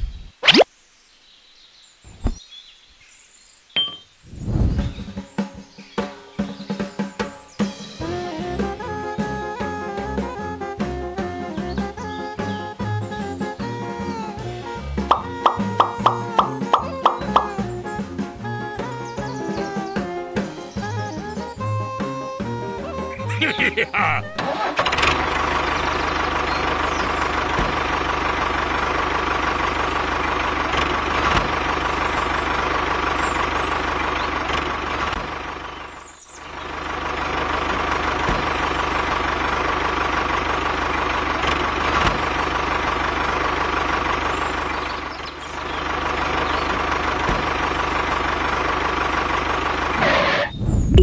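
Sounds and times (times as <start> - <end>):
tractor engine running: 4.4 - 51.0.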